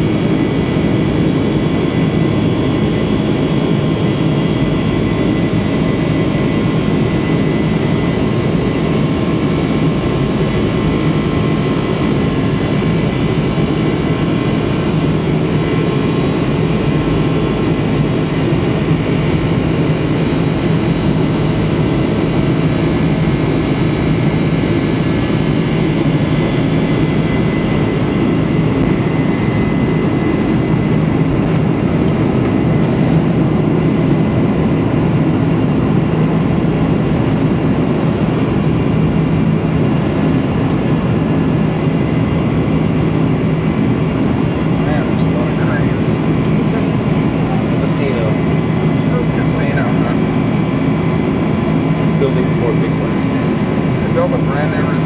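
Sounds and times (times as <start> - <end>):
jet engines droning with whine: 0.0 - 55.0.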